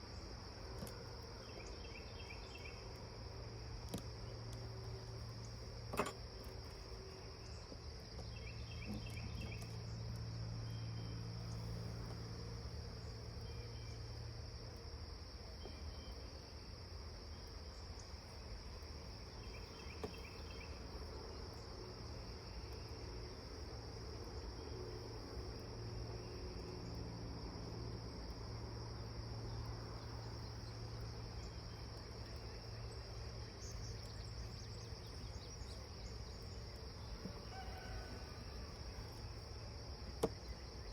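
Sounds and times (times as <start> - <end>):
crickets trilling: 0.0 - 40.9
low steady hum: 0.0 - 40.9.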